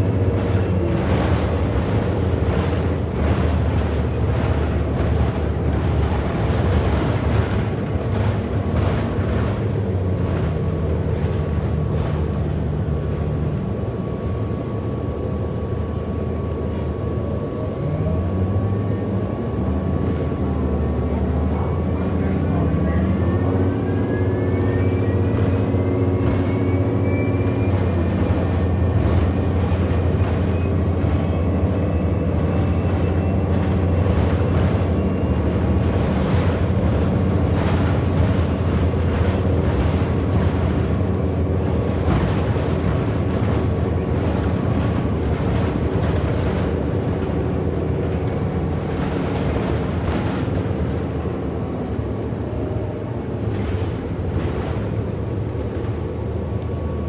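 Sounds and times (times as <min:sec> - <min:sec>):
bus drivetrain drone: 0:00.0 - 0:57.0.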